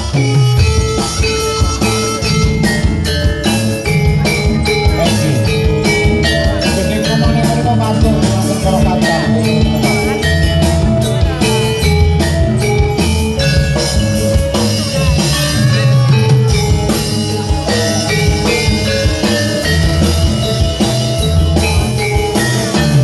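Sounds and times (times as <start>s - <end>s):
drum rhythm: 0.0s - 23.0s
struck metal gamelan keys: 1.0s - 23.0s.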